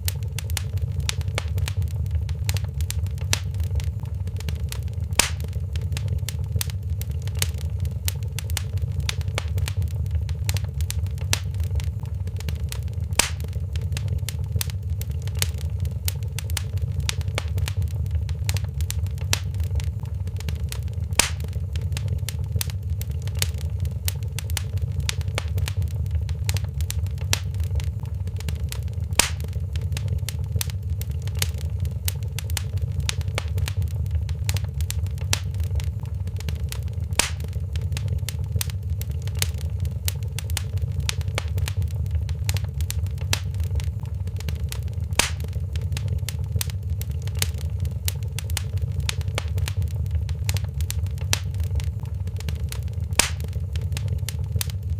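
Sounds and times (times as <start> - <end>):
fire popping: 0.0 - 54.9
wood fire crackling: 0.0 - 54.9.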